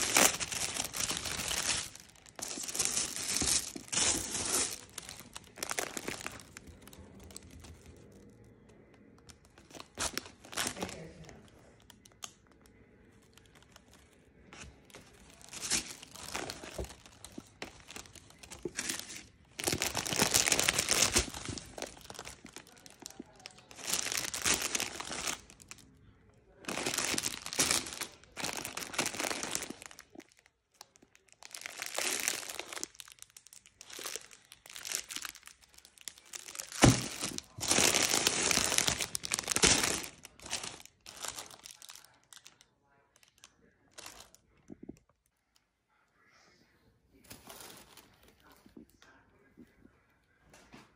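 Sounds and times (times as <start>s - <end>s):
tissue paper crinkling: 0.0s - 8.2s, 9.3s - 12.2s, 13.2s - 25.8s, 26.6s - 42.6s, 47.2s - 48.6s.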